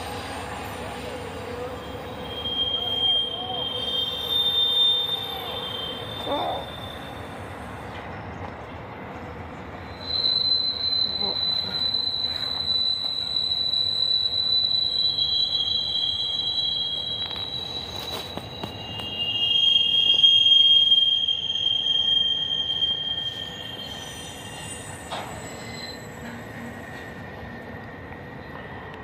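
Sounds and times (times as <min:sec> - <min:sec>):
freight train rumble: 0:00.0 - 0:29.0
train wheels squealing: 0:00.0 - 0:29.0.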